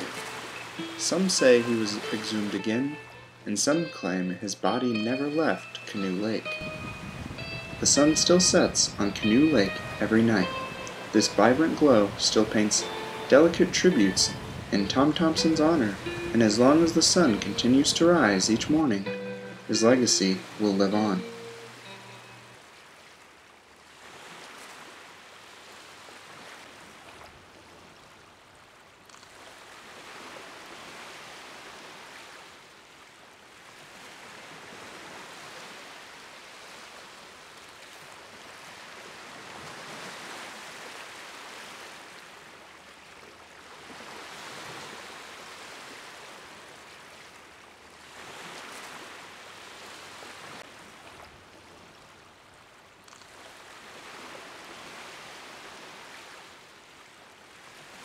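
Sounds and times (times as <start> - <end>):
waves washing on shore: 0.0 - 4.2, 5.3 - 52.6, 53.2 - 58.0.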